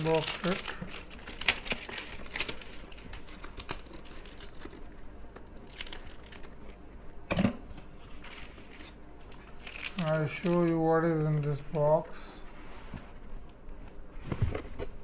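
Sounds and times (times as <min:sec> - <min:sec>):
packaging crinkling and rustling: 0:00.0 - 0:07.2, 0:07.9 - 0:15.0.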